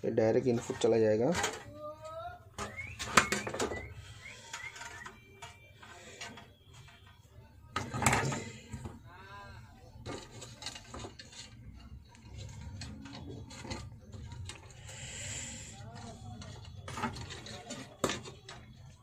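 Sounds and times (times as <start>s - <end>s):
tools and wires clattering: 0.3s - 9.1s, 9.8s - 14.9s, 15.7s - 19.0s.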